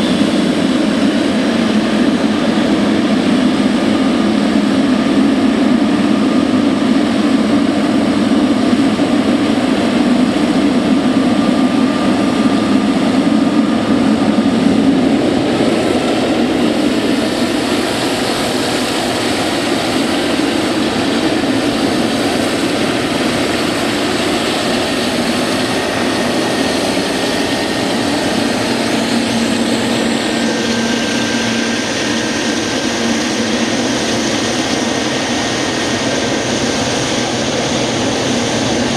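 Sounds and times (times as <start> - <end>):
jet engines roaring with whine: 0.0 - 38.9.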